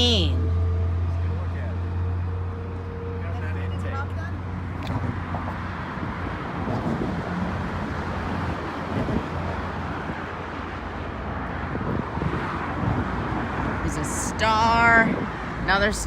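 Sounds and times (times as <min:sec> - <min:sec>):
vehicle noise rumble: 0:00.0 - 0:16.0.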